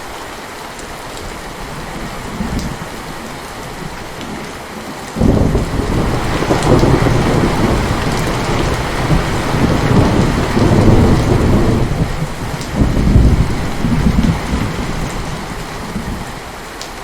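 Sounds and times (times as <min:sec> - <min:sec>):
heavy rain: 0:00.0 - 0:17.0
thunder rumbling: 0:01.6 - 0:16.4.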